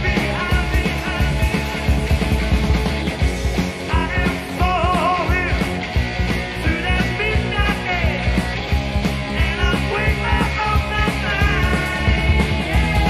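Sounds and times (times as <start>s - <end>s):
bass guitar: 0.0s - 13.0s
drums: 0.0s - 13.0s
electric guitars: 0.0s - 13.0s.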